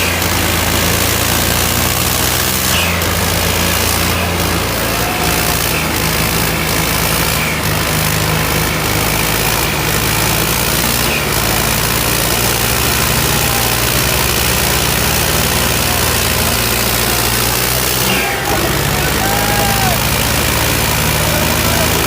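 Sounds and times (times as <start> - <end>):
diesel tractor engines running: 0.0 - 22.0.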